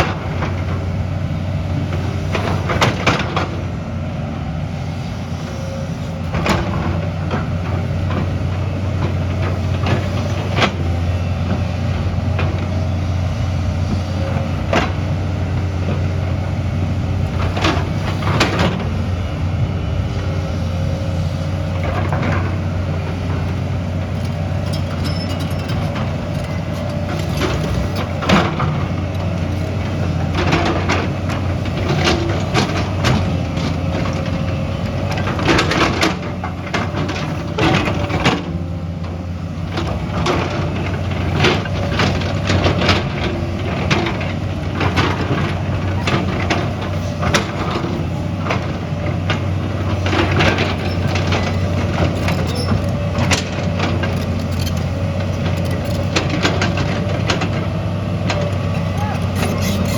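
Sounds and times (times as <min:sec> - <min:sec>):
construction machine engine: 0:00.0 - 0:59.9.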